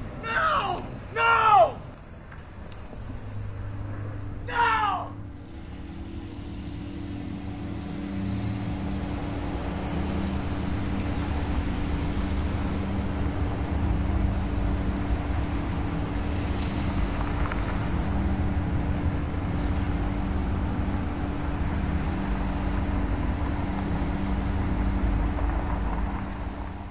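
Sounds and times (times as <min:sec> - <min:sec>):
constant low hum: 0:00.0 - 0:26.9
road traffic rumble: 0:00.0 - 0:26.9.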